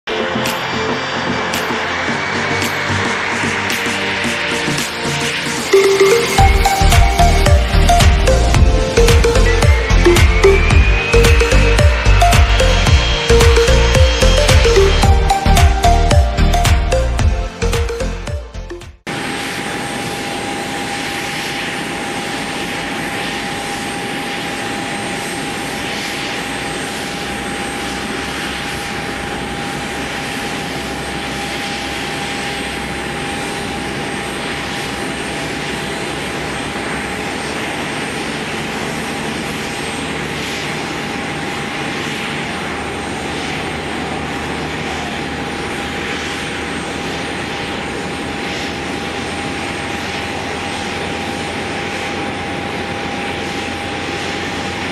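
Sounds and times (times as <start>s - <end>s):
jet engine whine and hiss: 0.1s - 54.9s.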